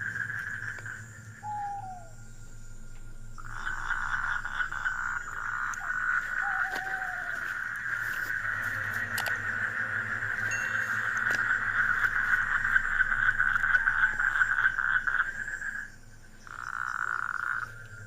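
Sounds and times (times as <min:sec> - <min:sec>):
frogs or insects trilling: 0:00.0 - 0:18.0.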